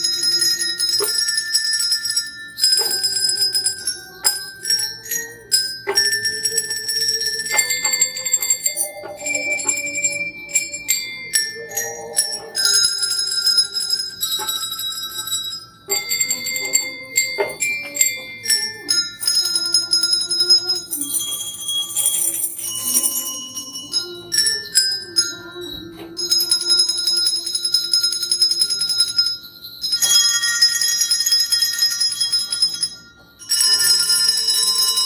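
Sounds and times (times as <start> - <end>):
bells ringing a hymn tune: 0.0 - 35.0.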